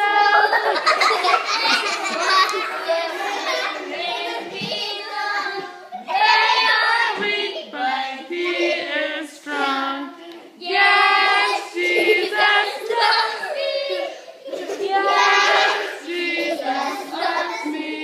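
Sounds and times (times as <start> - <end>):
young children singing: 0.0 - 18.0.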